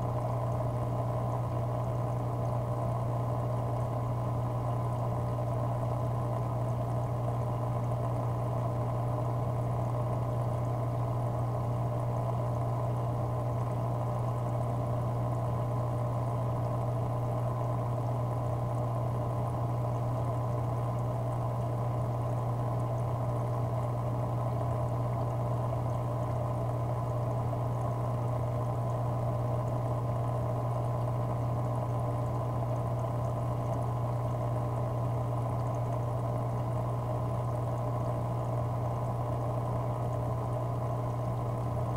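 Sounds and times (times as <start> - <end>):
aquarium pump humming: 0.0 - 41.9
bubbling water: 0.0 - 41.9.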